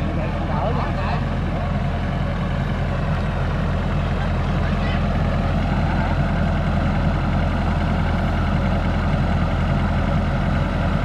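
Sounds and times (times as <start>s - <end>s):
combine harvester engine hum: 0.0s - 11.0s.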